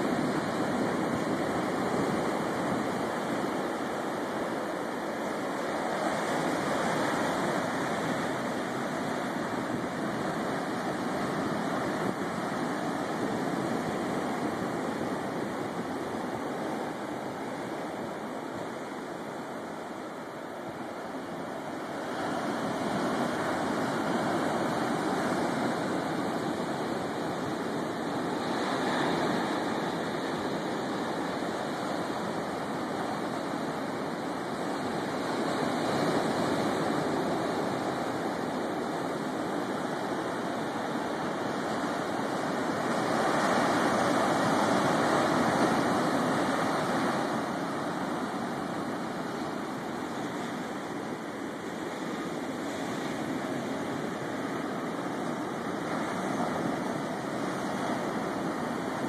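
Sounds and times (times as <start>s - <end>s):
ocean surf breaking on sand: 0.0s - 59.0s.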